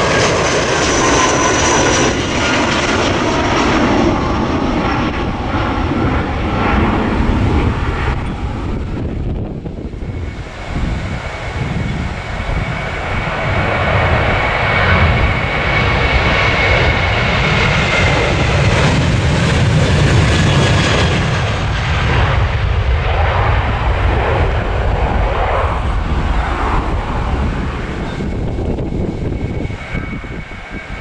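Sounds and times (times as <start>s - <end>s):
jet airliner taking off: 0.0s - 31.0s.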